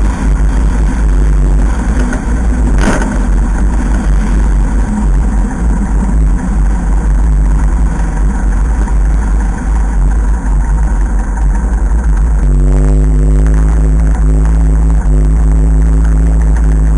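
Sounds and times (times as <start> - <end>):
small plane engine running: 0.0 - 16.9.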